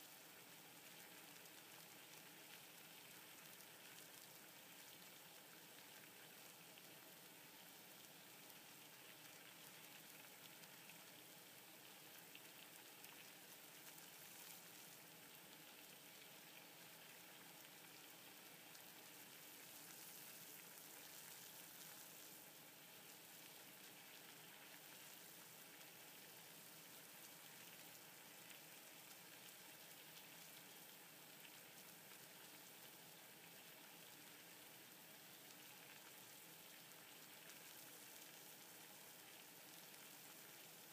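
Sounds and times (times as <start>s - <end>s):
water boiling in a pot: 0.0s - 40.9s.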